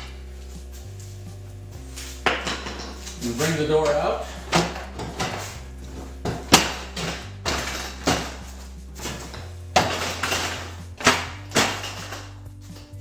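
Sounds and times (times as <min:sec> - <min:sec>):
metallic knocks and clanks: 0:02.2 - 0:13.0.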